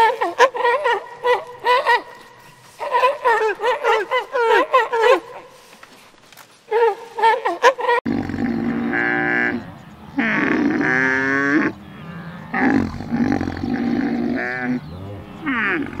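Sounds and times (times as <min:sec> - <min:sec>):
alpaca drawn-out calls: 0:00.0 - 0:05.6, 0:06.7 - 0:16.0.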